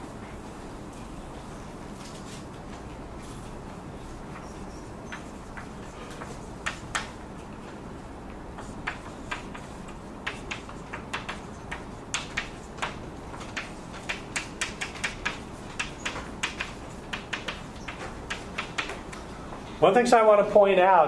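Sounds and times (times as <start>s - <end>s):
steady room hum: 0.0s - 21.0s.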